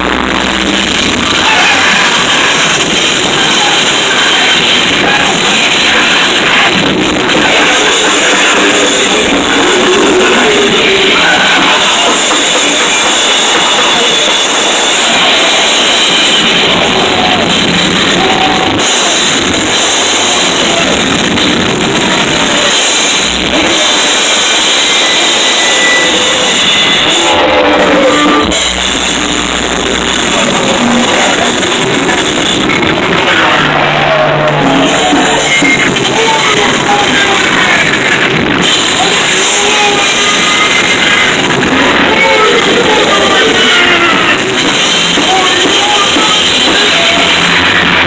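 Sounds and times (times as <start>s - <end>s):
distorted electric guitar noise: 0.0s - 48.0s.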